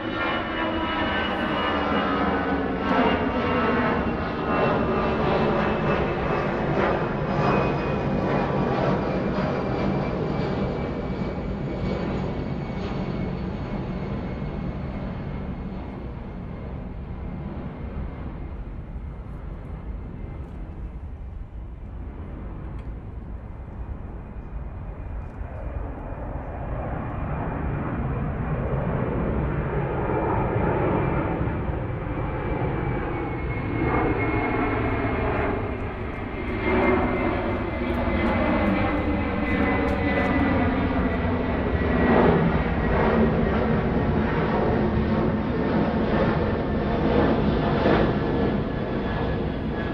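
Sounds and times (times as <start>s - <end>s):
airplane engines running: 0.0s - 49.9s.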